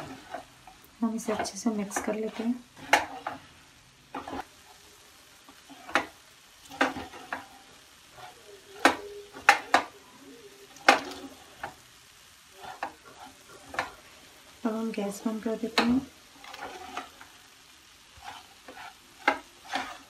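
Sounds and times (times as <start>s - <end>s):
wooden spatula scraping a pan: 0.0s - 4.8s, 5.4s - 9.9s, 10.6s - 11.9s, 12.5s - 20.0s.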